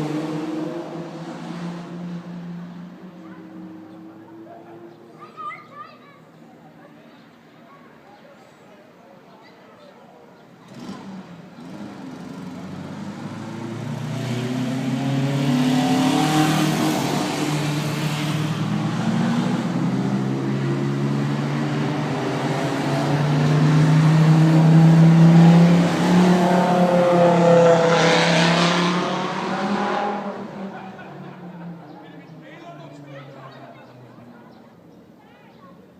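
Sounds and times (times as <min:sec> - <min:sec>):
old car engines revving past: 0:00.0 - 0:05.2, 0:10.4 - 0:35.2.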